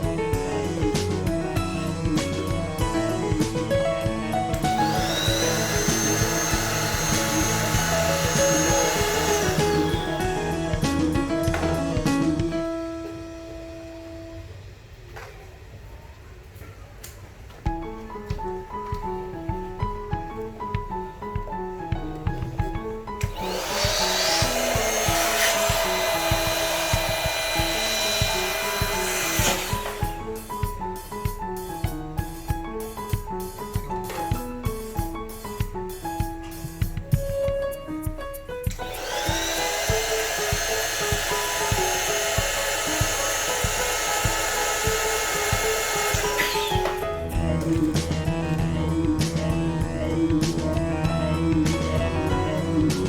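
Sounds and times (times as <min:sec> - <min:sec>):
background music: 0:00.0 - 0:14.7, 0:17.7 - 0:53.0
electric air pump humming: 0:00.0 - 0:15.0, 0:22.2 - 0:53.0.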